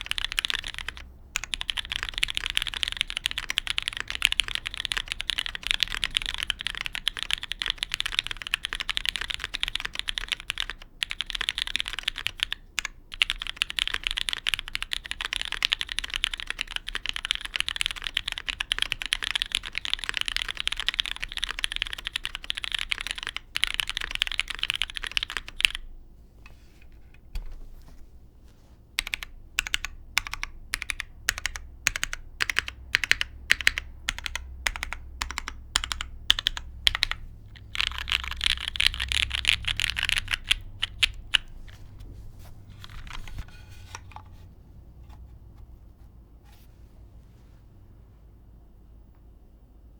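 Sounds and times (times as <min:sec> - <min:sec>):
mechanical keyboard typing: 0:00.0 - 0:25.9, 0:29.0 - 0:42.0, 0:42.6 - 0:44.4.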